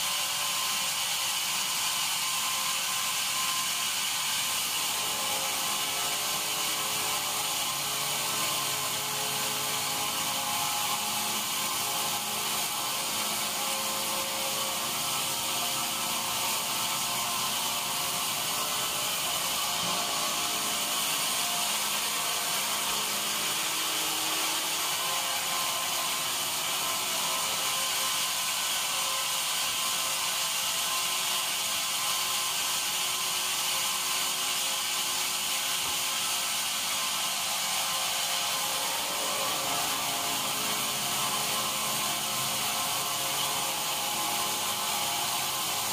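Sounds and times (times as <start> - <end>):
band saw cutting log: 0.0 - 45.9.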